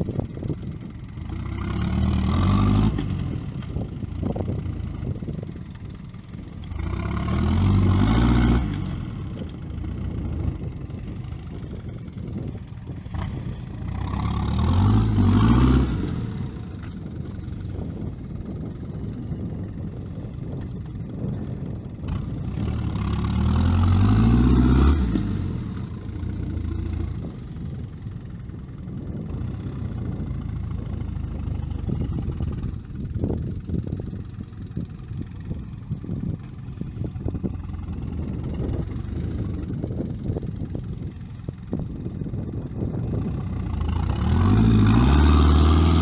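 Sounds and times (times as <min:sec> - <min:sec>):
turbo engine revving under load: 0:00.0 - 0:46.0.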